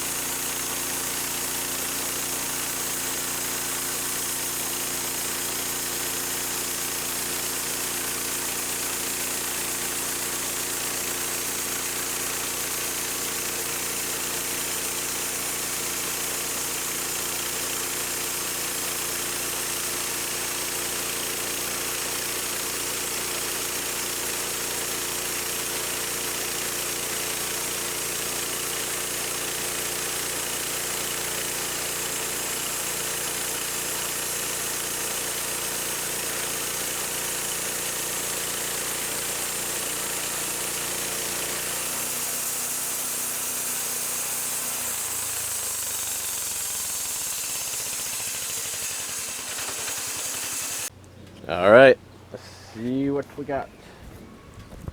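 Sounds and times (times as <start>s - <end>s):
sawmill engine humming: 0.0s - 54.5s.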